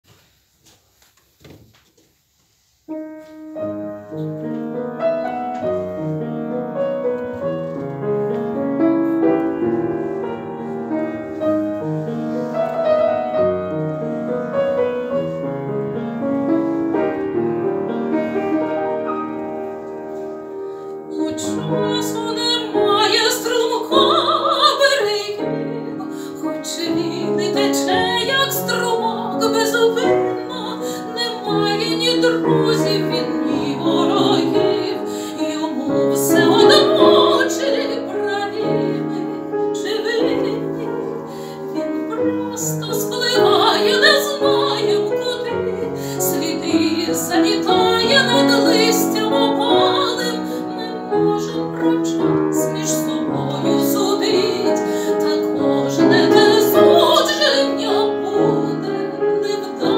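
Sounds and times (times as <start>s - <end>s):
upright piano playing: 2.9s - 59.9s
woman singing classical: 3.6s - 20.2s, 20.8s - 59.9s.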